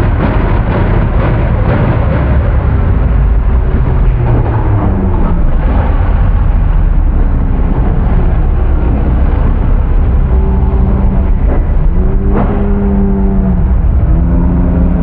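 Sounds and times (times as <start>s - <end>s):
buggy engine revving unevenly: 0.0s - 15.0s.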